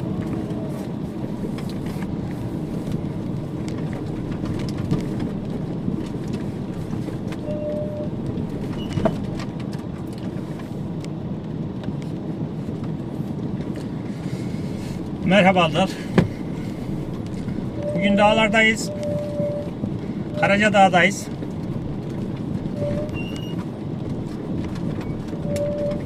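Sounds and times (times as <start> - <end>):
van engine and rolling rumble: 0.0 - 26.0.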